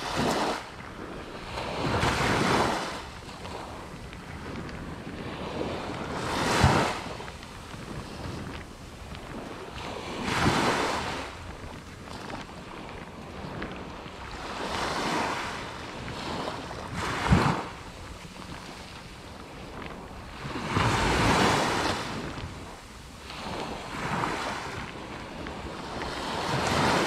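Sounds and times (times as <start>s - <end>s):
sea waves breaking on shore: 0.0s - 27.0s
wind on microphone: 0.0s - 27.0s.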